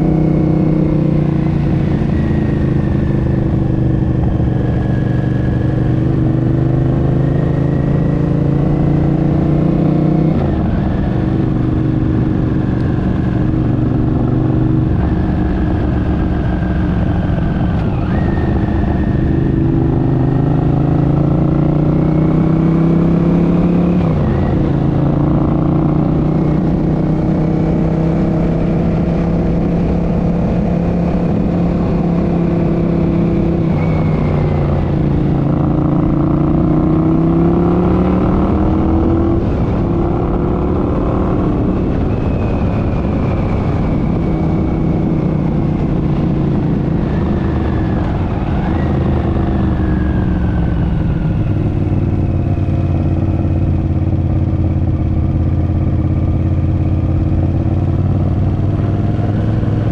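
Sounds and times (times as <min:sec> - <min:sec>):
high transmission whine: 0:00.0 - 0:59.9
motorcycle engine running: 0:00.0 - 0:59.9.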